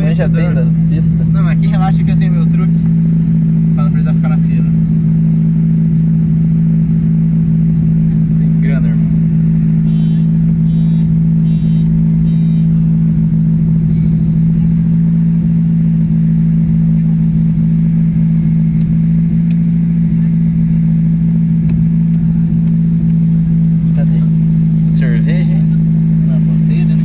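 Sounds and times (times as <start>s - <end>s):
car engine idling loud drone: 0.0s - 27.0s.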